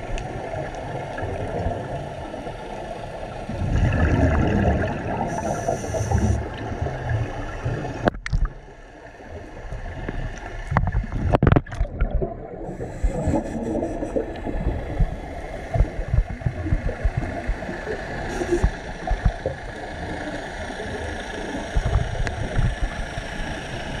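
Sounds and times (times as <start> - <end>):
faint steady hum: 0.0 - 24.0
muffled underwater wash: 0.0 - 24.0.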